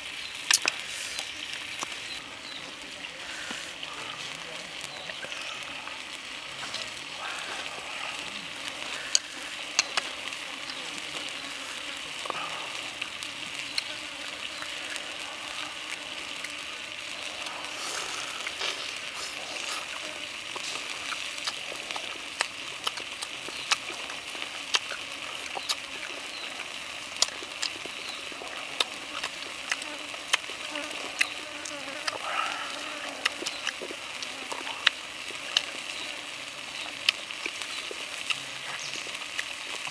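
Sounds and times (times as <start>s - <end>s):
chewing and tearing ribs: 0.3s - 39.9s
high insect buzz: 5.0s - 22.3s, 24.3s - 39.3s.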